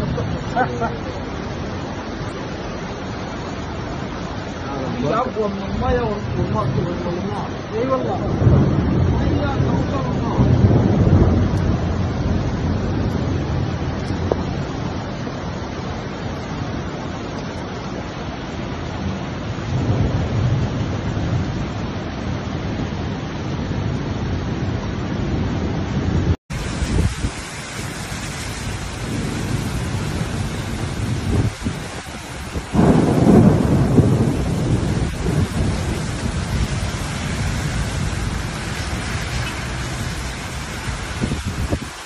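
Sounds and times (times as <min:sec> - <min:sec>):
flood water rushing: 0:00.0 - 0:42.0
rain falling on a wet street: 0:00.0 - 0:42.0
wind rumbling on microphone: 0:05.5 - 0:42.0.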